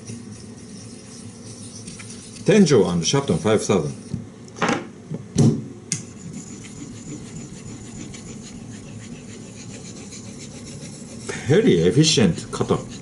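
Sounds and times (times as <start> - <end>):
knife rubbing on wet whetstone: 0.0 - 4.2, 6.1 - 13.0.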